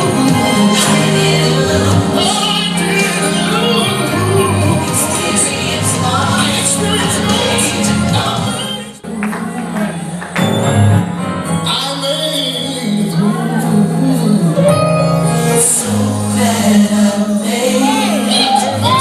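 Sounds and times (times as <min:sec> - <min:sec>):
people singing: 0:00.0 - 0:10.6, 0:12.4 - 0:19.0
keyboard and bass chords: 0:00.0 - 0:19.0.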